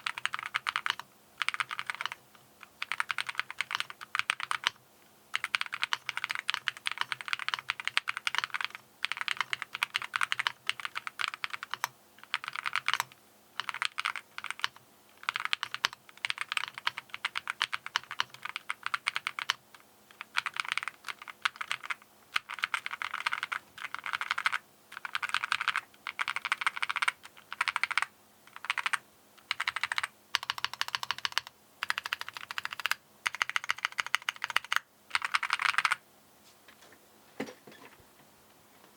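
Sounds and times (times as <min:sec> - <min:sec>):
fast typing on mechanical keyboard: 0:00.0 - 0:36.0.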